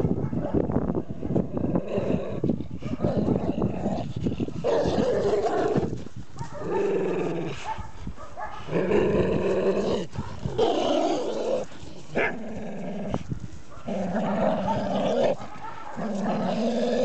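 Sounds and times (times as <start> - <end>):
dogs growling: 1.3 - 17.0.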